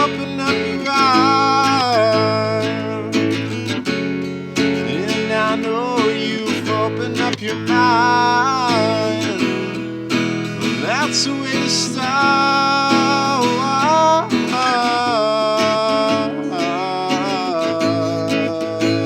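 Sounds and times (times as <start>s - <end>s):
acoustic guitar strummed chords: 0.0s - 19.0s
sliding guitar melody line: 0.0s - 19.0s.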